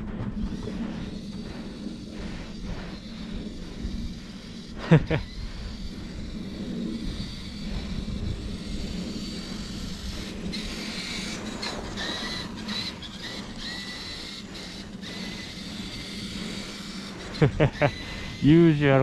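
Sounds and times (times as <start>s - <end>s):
low rumble of toy truck: 0.0s - 19.0s
thin electric motor whine: 0.0s - 19.0s.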